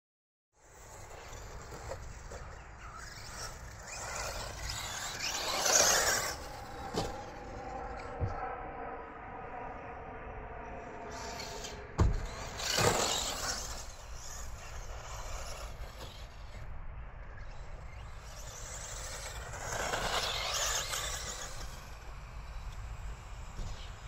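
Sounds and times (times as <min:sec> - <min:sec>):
rc car motor whine and tyre noise: 0:00.6 - 0:24.0.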